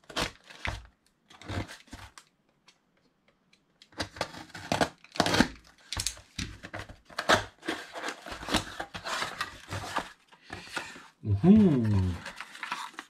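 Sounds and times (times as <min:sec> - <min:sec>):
packaging tearing and rustling: 0:00.0 - 0:02.3, 0:03.9 - 0:13.0.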